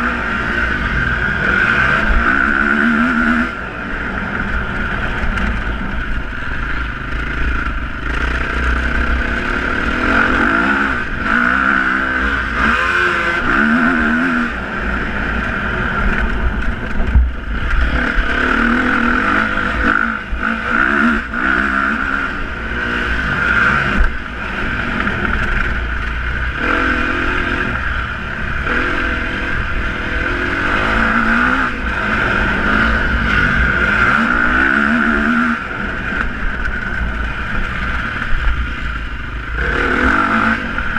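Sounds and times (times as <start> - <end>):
motorcycle engines revving: 0.0 - 40.9
steady low rumble: 0.0 - 40.9.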